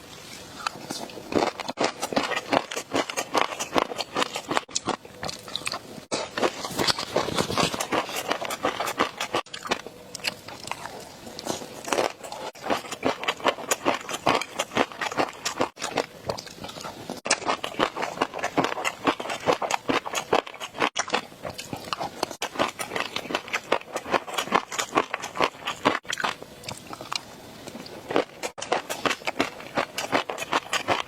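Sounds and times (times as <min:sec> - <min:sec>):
crunchy chewing: 0:00.2 - 0:31.0.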